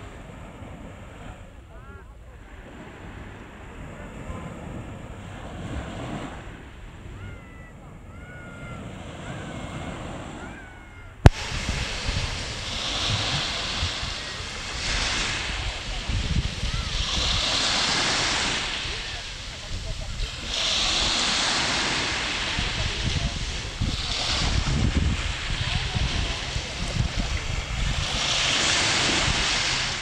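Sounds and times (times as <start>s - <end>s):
sea waves washing on beach: 0.0s - 30.0s.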